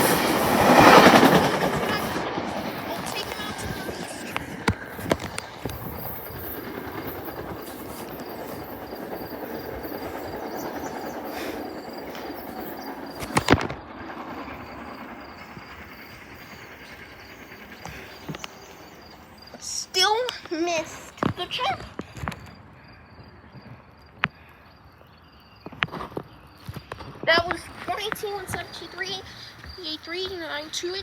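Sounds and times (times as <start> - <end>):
train wheels clacking on rail joints: 0.0 - 22.5, 26.7 - 31.0.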